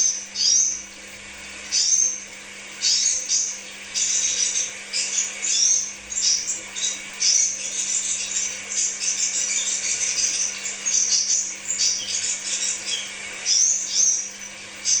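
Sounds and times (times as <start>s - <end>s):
bird twittering: 0.4s - 0.8s, 2.8s - 15.0s.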